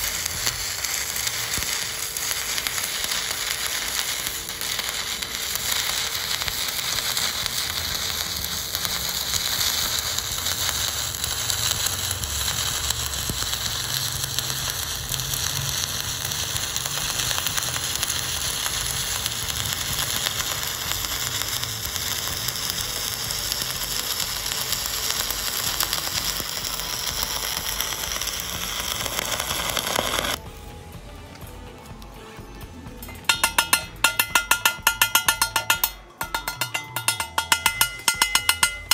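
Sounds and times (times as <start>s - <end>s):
welding arc crackling sizzle: 0.0s - 38.9s.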